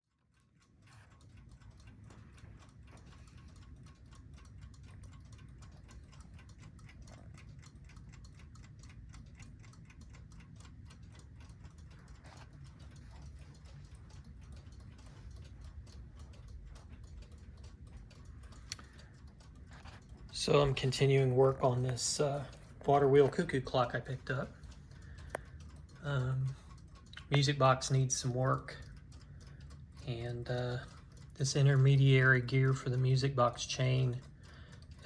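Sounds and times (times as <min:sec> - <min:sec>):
clock ticking: 0:00.0 - 0:35.0
low steady hum: 0:00.1 - 0:35.0.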